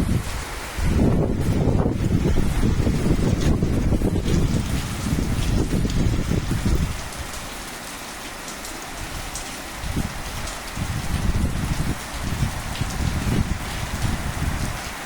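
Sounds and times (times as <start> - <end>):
low buffeting rumble: 0.0 - 7.3, 9.8 - 14.8
rain falling steadily: 0.0 - 15.0.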